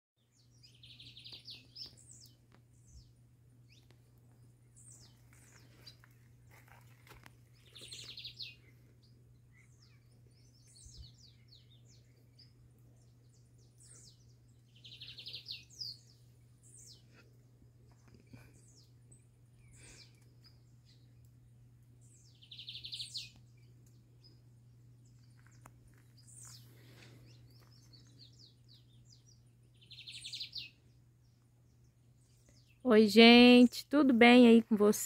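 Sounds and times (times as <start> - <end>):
bird song with rattling trill: 0.2 - 21.3, 22.0 - 33.8
birds chirping: 0.2 - 35.0.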